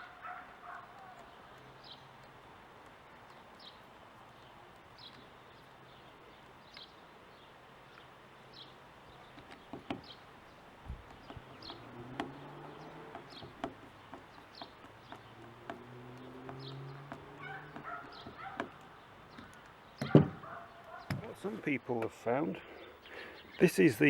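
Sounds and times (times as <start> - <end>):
bird chirping: 0.0 - 24.0.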